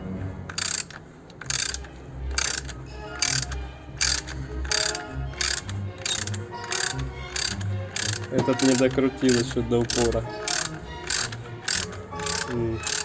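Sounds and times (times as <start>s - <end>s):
ratchet wrench clicking: 0.5s - 13.0s.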